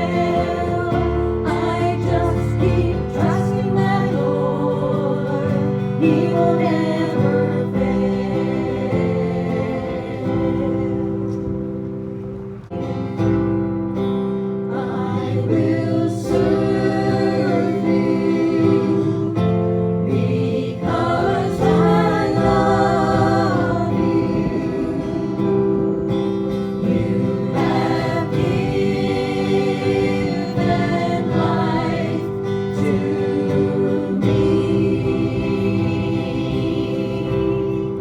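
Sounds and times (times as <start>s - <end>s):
gospel singing with instruments: 0.0s - 38.0s.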